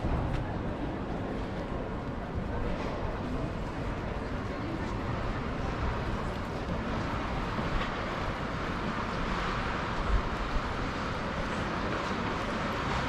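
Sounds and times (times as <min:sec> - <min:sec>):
crowd noise: 0:00.0 - 0:13.0
traffic: 0:00.0 - 0:13.0.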